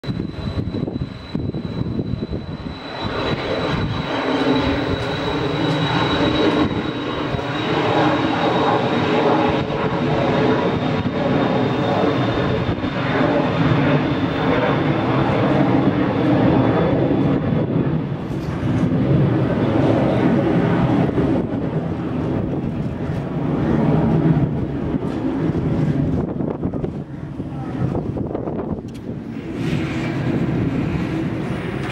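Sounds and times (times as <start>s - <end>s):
high jet engine whine: 0.0s - 31.9s
jet engine roar: 0.0s - 31.9s.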